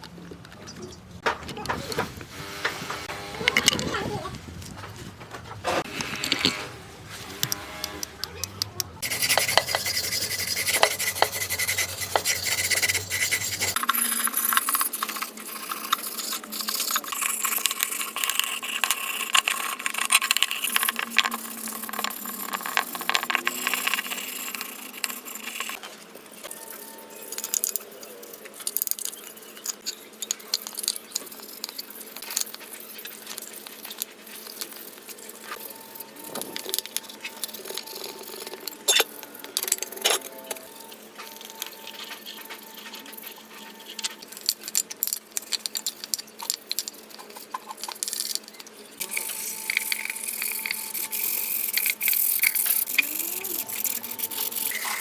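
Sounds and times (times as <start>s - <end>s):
scraping and rubbing on metal: 9.0s - 55.0s.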